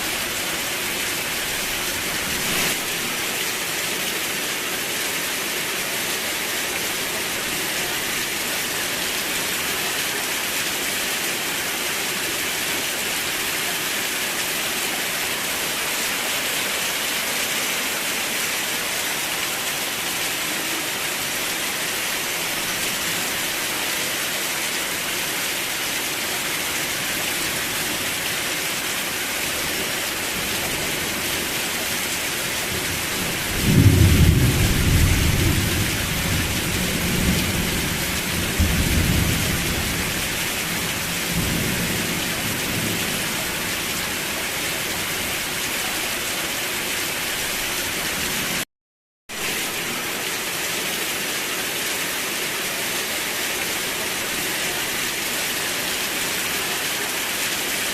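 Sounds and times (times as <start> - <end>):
steady rain hiss: 0.0 - 48.6, 49.4 - 57.9.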